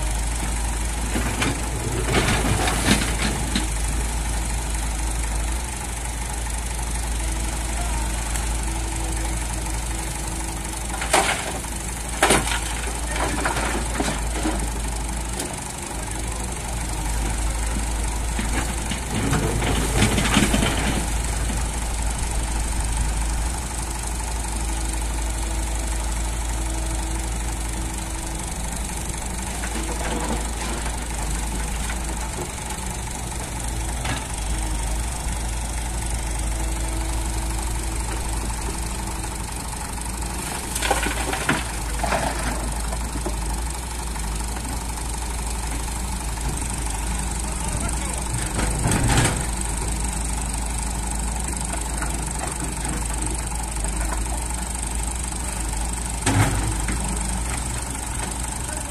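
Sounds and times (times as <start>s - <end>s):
diesel engines running: 0.0s - 58.9s.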